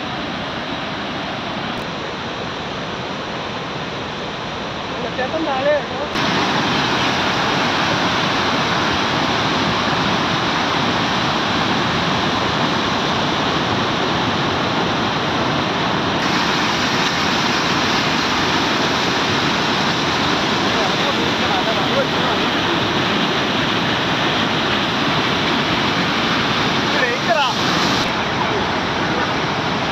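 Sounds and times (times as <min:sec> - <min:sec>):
waterfall roaring over rocks: 0:00.0 - 0:29.9.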